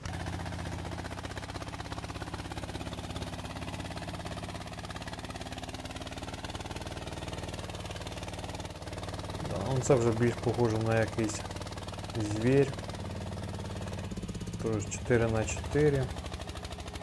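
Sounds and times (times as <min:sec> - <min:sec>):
diesel engine chugging: 0:00.0 - 0:17.0.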